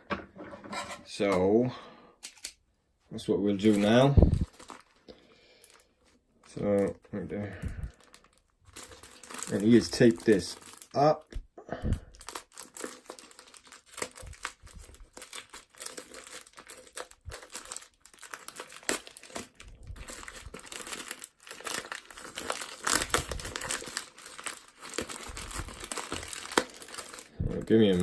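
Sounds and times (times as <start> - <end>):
packaging being torn and crumpled: 3.6 - 7.0, 7.6 - 11.3, 12.1 - 28.0.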